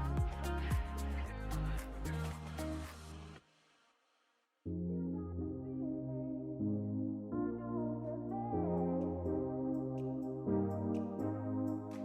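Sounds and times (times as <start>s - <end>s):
calm ambient music: 0.0s - 3.4s, 4.7s - 12.0s.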